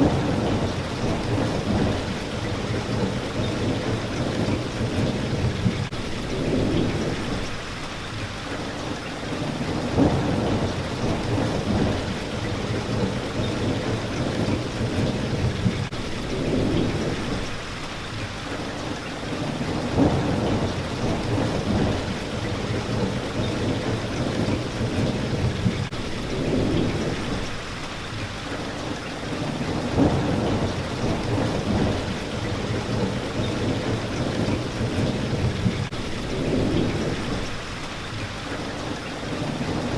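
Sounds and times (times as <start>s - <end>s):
thunder rumbling: 0.0s - 7.6s, 9.3s - 17.6s, 19.3s - 27.6s, 29.3s - 38.0s
rain hitting a window: 0.0s - 39.9s.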